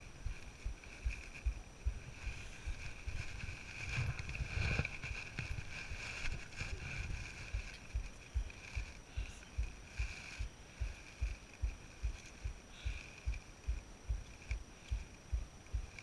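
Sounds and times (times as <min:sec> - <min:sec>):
footsteps on a trail: 0:00.0 - 0:16.0
high-pitched hum: 0:00.0 - 0:16.0.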